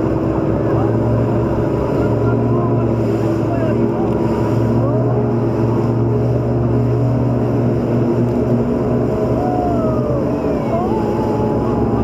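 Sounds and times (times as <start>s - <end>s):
boat engines humming: 0.0s - 12.0s
water rushing: 0.0s - 12.0s
wind: 0.0s - 12.0s.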